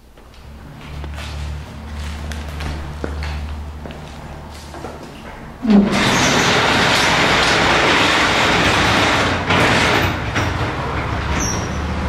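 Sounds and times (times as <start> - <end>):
garage door rolling up: 0.2 - 12.0.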